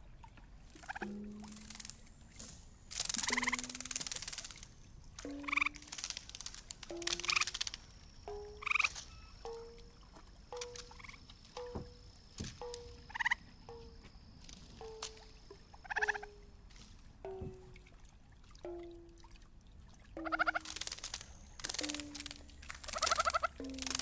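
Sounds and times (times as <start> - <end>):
frog-like croaks: 0.7 - 16.5, 20.2 - 24.0.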